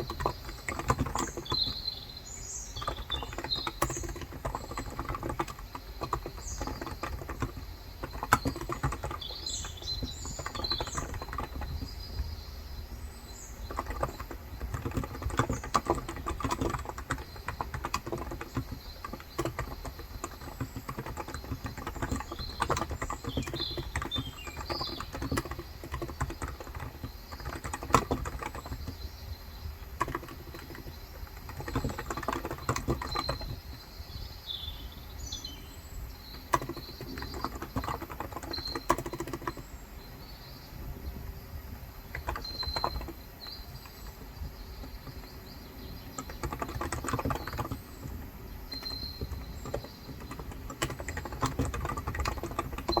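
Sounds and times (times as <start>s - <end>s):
keyboard typing: 0.0s - 33.9s, 36.2s - 39.8s, 41.2s - 53.0s
birds chirping: 0.0s - 53.0s.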